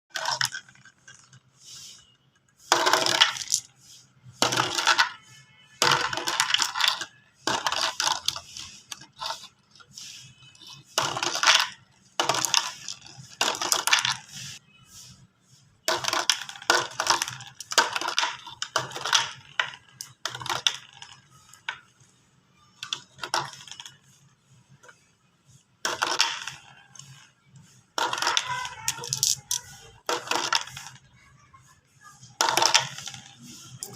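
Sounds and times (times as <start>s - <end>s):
marbles clattering down plastic track: 0.1s - 1.4s, 2.7s - 3.8s, 4.4s - 5.2s, 5.8s - 14.6s, 15.9s - 24.2s, 25.8s - 31.1s, 32.4s - 33.9s.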